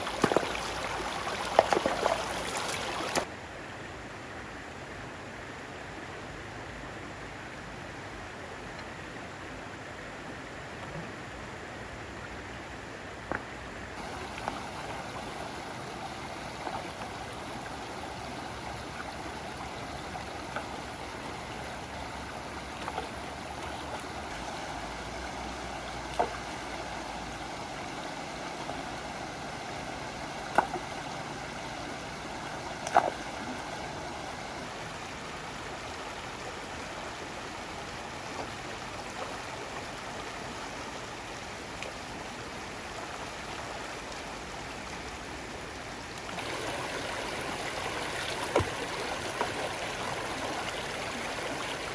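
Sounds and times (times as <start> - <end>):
shallow stream flowing: 0.0 - 51.9.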